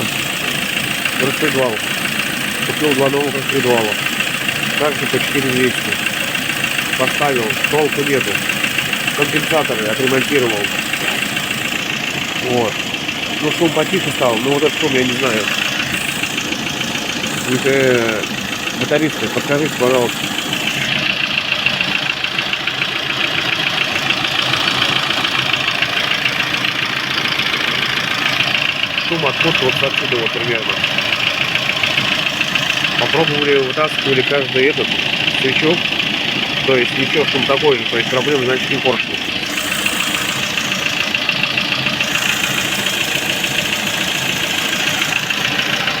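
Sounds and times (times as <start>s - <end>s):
engine running: 0.0s - 46.0s
rapid ticking knock: 0.0s - 46.0s.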